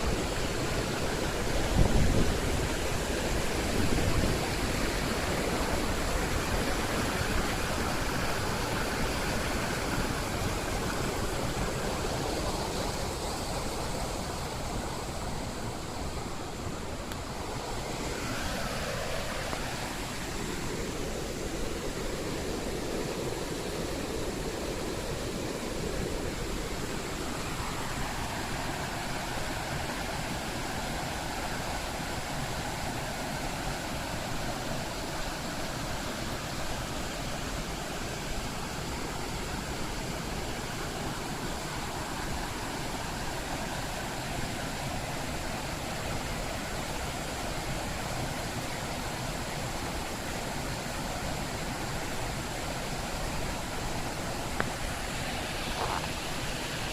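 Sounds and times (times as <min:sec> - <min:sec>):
whitewater rushing over rapids: 0:00.0 - 0:56.9.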